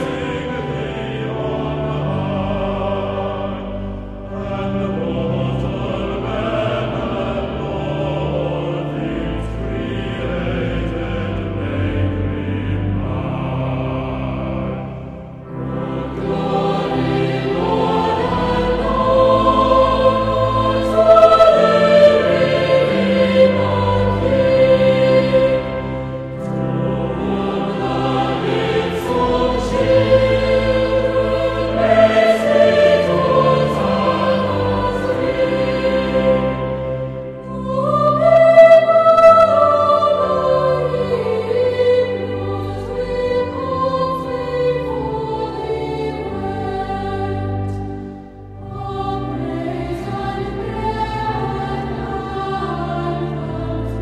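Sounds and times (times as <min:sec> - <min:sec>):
choir singing sacred music: 0:00.0 - 0:54.0.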